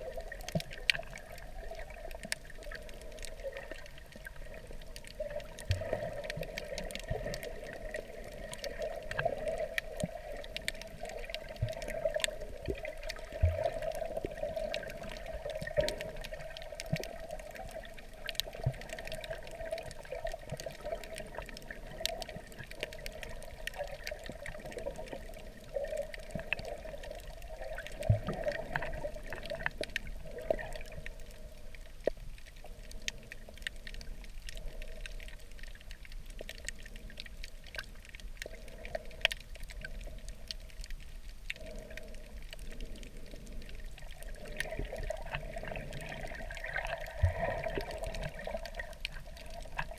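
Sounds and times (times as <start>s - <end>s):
muffled underwater wash: 0.0s - 49.9s
sharp clicks and crackles: 0.0s - 49.9s.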